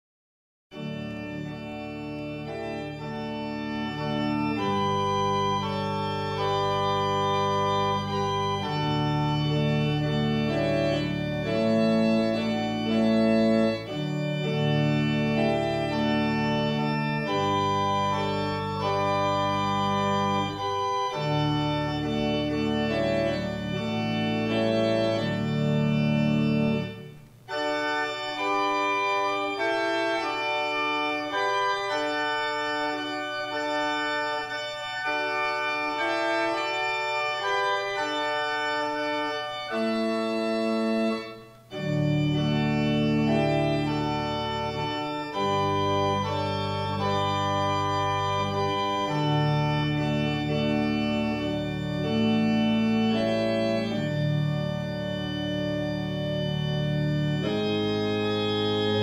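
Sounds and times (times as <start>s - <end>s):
organ playing sustained chords: 0.7s - 59.0s.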